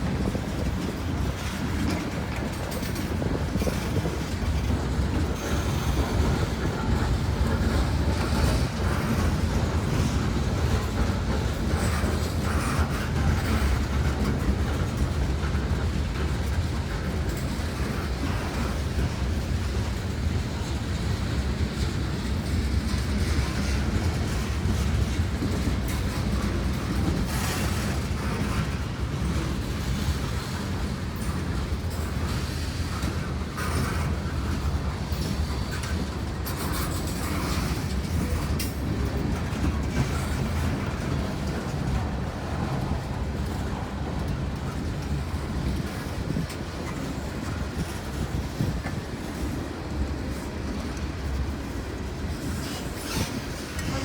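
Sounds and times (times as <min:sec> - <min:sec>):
train wheels rumbling on rails: 0:00.0 - 0:54.0
wheels clicking over rail joints: 0:00.0 - 0:54.0.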